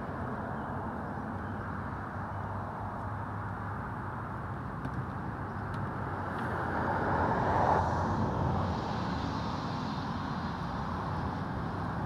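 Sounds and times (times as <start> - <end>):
highway traffic noise: 0.0 - 12.0.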